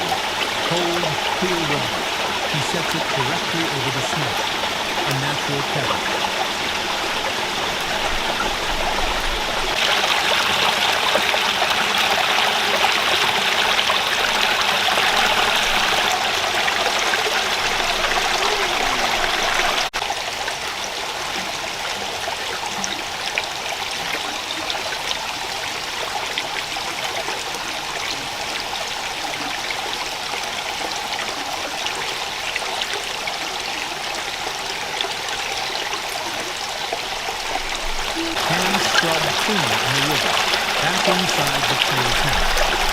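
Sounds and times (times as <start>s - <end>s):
stream running over stones: 0.0s - 42.9s.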